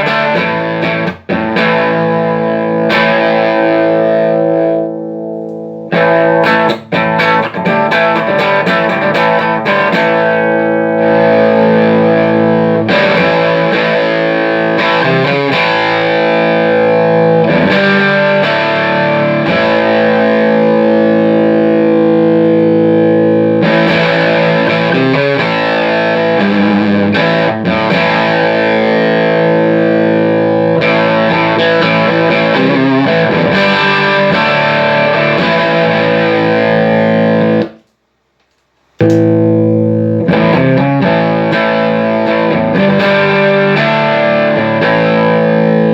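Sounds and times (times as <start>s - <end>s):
electric guitar through tube amp: 0.0s - 37.9s, 39.0s - 45.9s.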